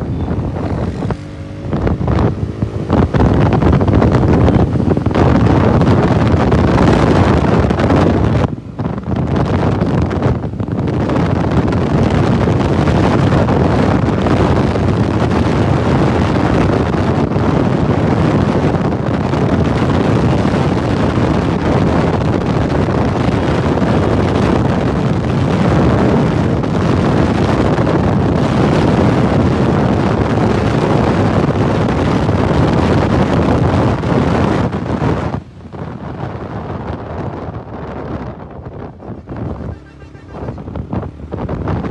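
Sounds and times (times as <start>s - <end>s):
wind rush buffeting microphone: 0.0s - 41.9s.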